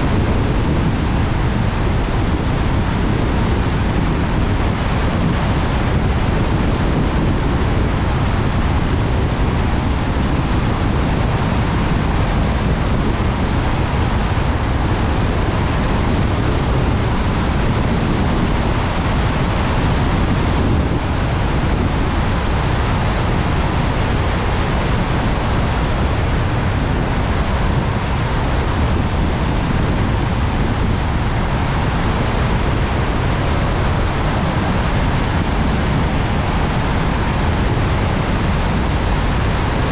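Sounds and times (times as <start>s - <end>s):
wind over car: 0.0s - 39.9s.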